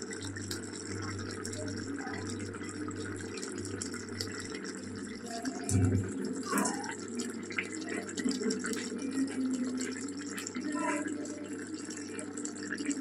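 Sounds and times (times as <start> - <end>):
curry bubbling in a wok: 0.0 - 13.0.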